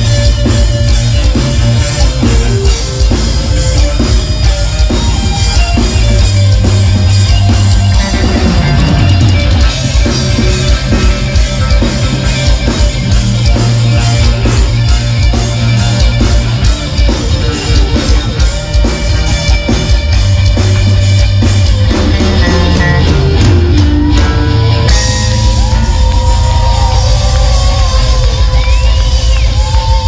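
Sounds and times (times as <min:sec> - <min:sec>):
lead guitar bending notes: 0:00.0 - 0:26.3
live rock band playing: 0:00.0 - 0:30.0.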